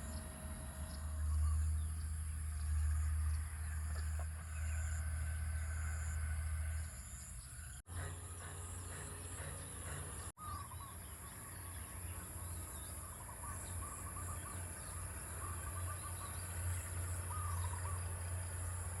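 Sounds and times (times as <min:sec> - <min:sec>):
birds chirping: 0:00.0 - 0:05.1, 0:05.9 - 0:18.9.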